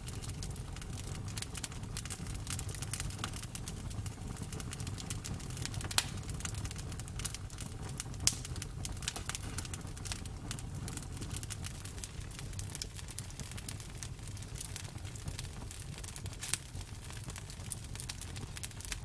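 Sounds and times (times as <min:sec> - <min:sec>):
campfire crackling and popping: 0:00.0 - 0:19.0
low rumble of burning: 0:00.0 - 0:19.0.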